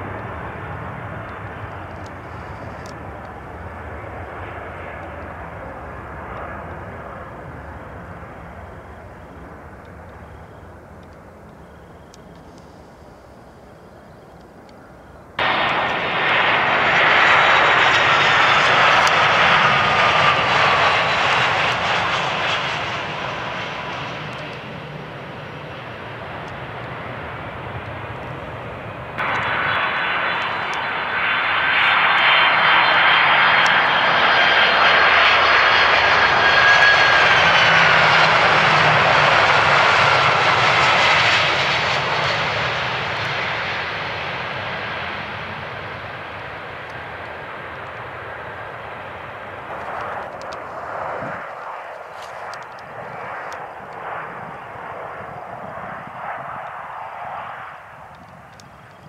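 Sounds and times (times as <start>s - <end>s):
high engine whine: 0.0s - 59.0s
jet engines roaring past: 0.0s - 59.0s.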